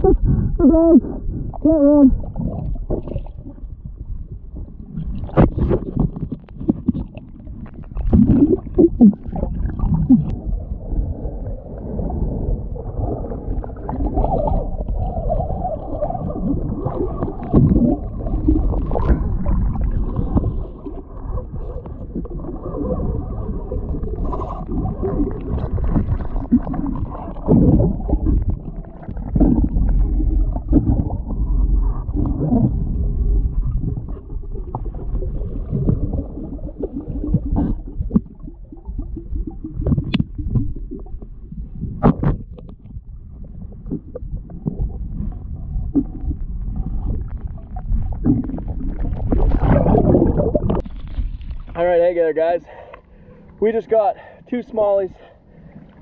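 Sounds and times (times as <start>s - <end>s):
low thumps and rumbles: 0.0s - 53.6s
underwater sloshing and gurgling: 0.0s - 56.0s.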